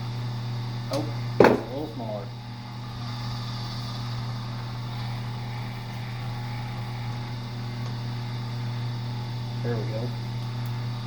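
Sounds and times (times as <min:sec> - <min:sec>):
machine motor humming: 0:00.0 - 0:11.0.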